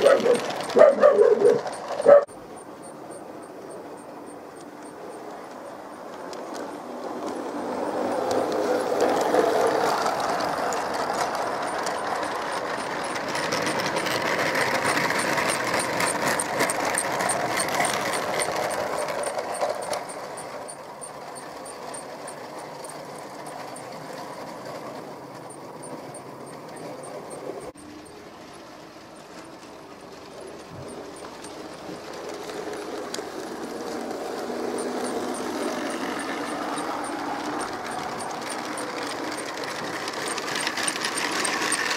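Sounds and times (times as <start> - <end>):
model train wheels clicking on rails: 0.0 - 41.9.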